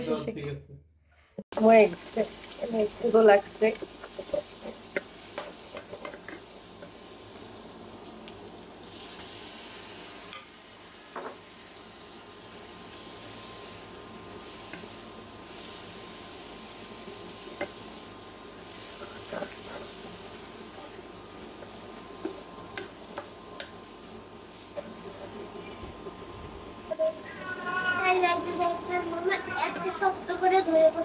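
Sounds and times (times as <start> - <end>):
food sizzling in a frying pan: 1.5 - 31.0.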